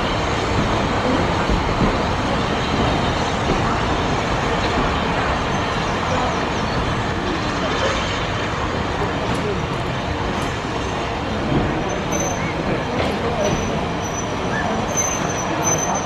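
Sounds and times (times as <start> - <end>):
people's voices: 0.0 - 16.0
train coaches rumbling past: 0.0 - 16.0.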